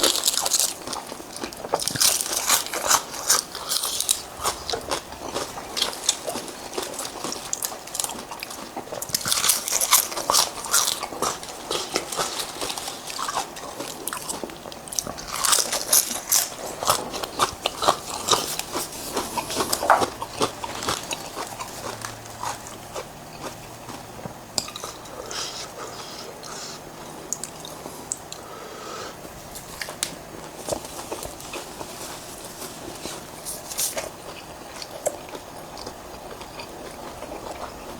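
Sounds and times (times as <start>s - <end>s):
person chewing crunchy food: 0.0s - 37.9s.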